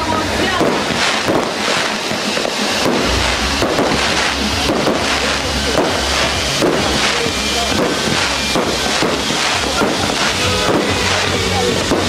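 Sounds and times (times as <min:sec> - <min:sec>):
firework cracks overhead: 0:00.0 - 0:12.0
fountain fireworks hissing: 0:00.0 - 0:12.0.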